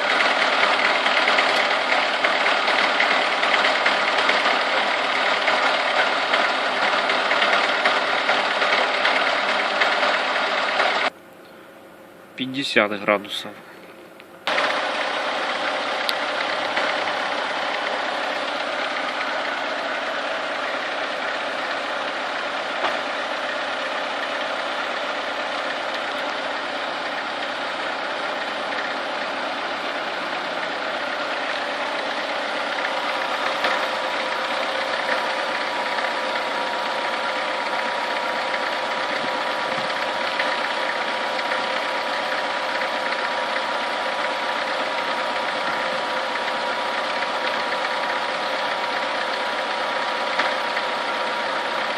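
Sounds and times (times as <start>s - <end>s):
engine knock: 0.0s - 11.1s, 14.5s - 51.9s
car engine idling: 0.0s - 51.9s.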